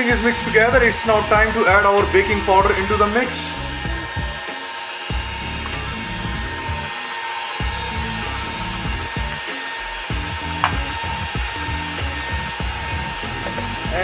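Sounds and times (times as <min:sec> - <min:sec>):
stand mixer motor running: 0:00.0 - 0:14.0
whisk beating batter in bowl: 0:00.0 - 0:14.0.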